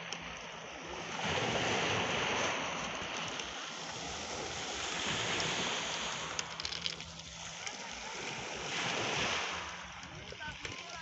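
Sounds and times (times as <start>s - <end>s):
waves washing over pebbles: 0.0s - 11.0s.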